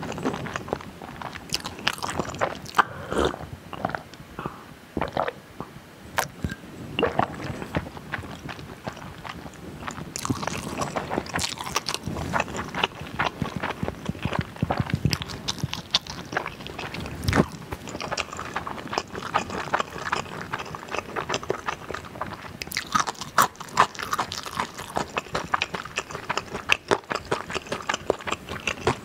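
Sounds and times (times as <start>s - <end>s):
person chewing food: 0.0s - 5.4s, 6.2s - 29.0s.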